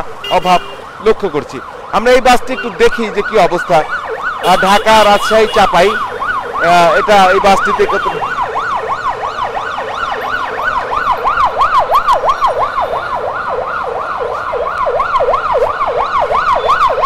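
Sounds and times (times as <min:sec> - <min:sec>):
electronic siren yelping: 0:00.3 - 0:17.0.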